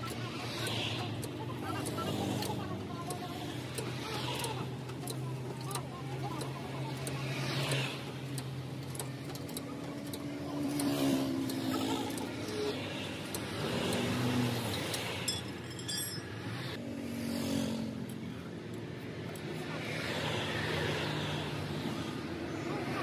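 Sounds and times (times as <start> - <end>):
vehicle engines passing by: 0.0 - 23.0.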